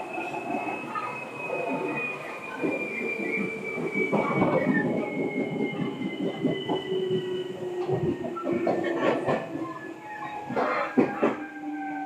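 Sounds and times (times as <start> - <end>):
train wheels clattering on rails: 0.0 - 11.7.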